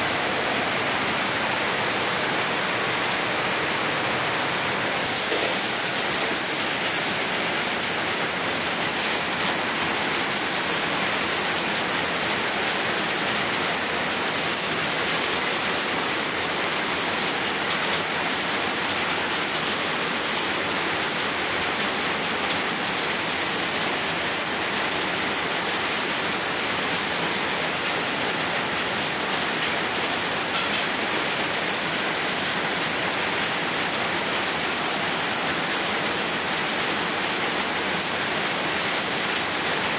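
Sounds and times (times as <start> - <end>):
heavy rain pouring on concrete: 0.0 - 39.9.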